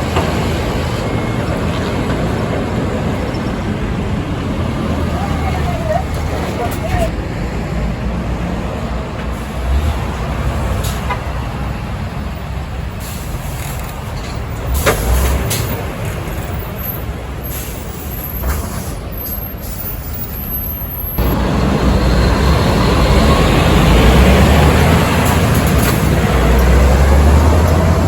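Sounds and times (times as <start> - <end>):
heavy trucks engine rumble: 0.0 - 28.0
road noise: 0.0 - 28.0.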